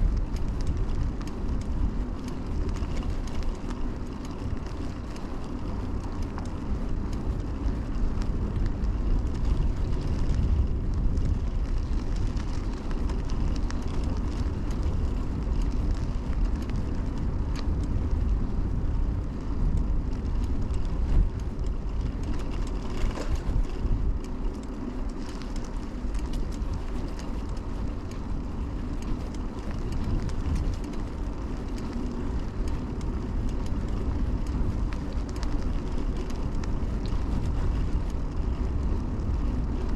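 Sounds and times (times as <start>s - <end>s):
bicycle tyre noise: 0.0s - 39.9s
wind rumble: 0.0s - 39.9s.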